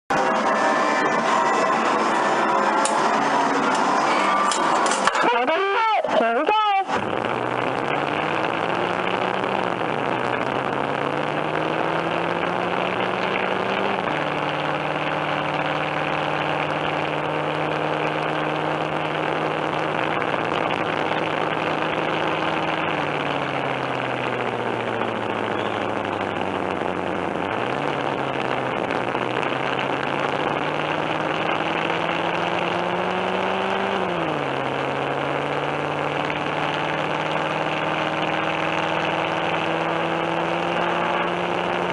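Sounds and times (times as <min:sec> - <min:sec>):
engine sound effect from speaker: 0:00.1 - 0:41.9.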